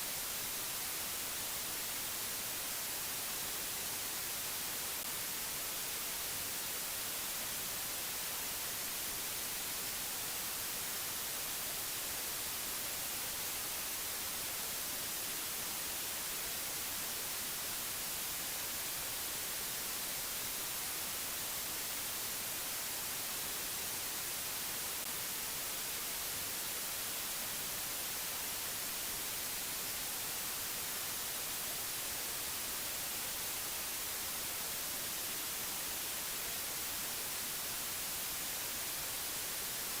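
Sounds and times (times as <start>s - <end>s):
static-like hiss: 0.0s - 40.0s.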